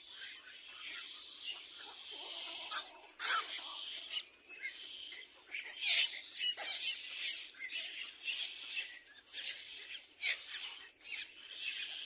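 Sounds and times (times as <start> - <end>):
chicks squeaky begging calls: 0.0 - 12.0.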